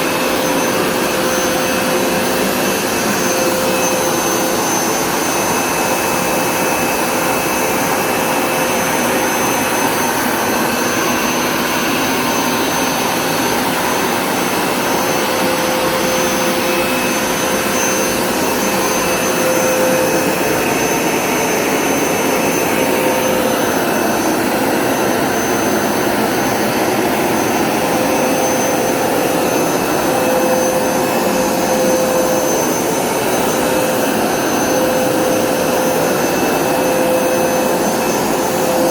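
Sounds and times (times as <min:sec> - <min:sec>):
carpet cleaner motor whining: 0:00.0 - 0:38.9.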